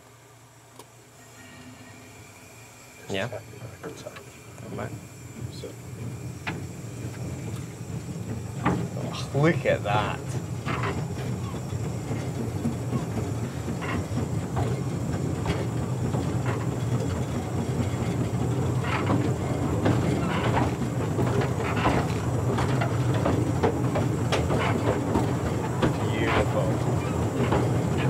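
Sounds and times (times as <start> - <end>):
steam locomotive rumbling: 1.2 - 28.0
wheels clicking over rail joints: 5.5 - 28.0.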